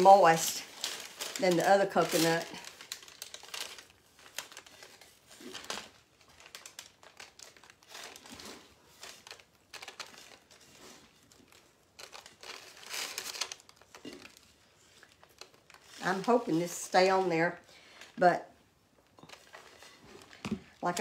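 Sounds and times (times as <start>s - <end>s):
paper crinkling and rustling: 0.0s - 18.2s, 19.0s - 21.0s.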